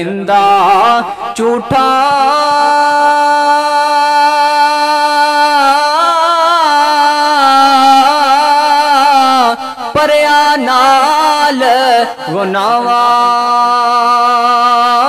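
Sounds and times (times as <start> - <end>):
man singing solo: 0.0 - 15.0.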